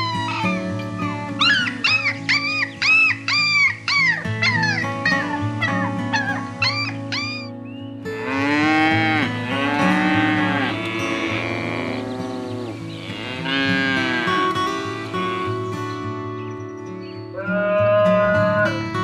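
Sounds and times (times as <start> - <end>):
animal calling: 0.0 - 16.4
background music: 0.0 - 19.0.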